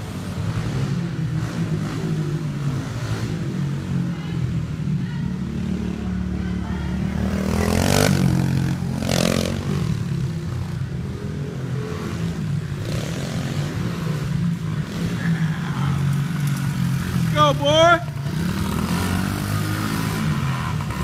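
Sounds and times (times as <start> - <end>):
dirt bike engine revving: 0.0 - 4.3, 5.0 - 21.0
dirt bike engines running: 0.0 - 21.0.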